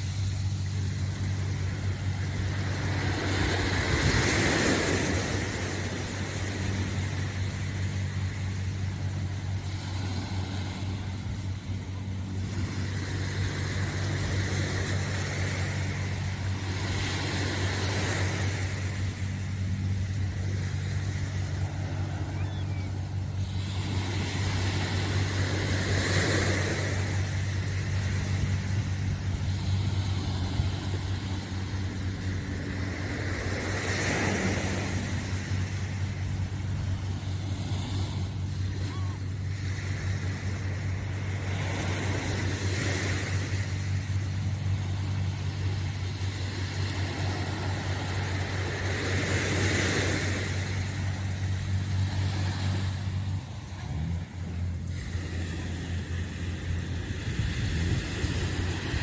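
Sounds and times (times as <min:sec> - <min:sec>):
low motor hum: 0:00.0 - 0:59.0
small waves washing onto shore: 0:00.0 - 0:59.0.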